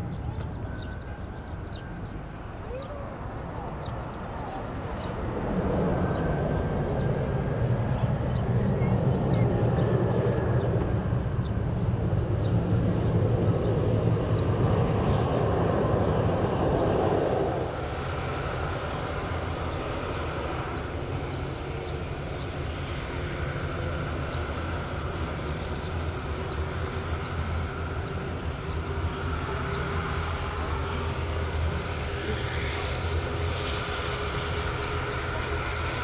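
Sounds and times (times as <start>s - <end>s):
airliner engines running: 0.0s - 36.0s.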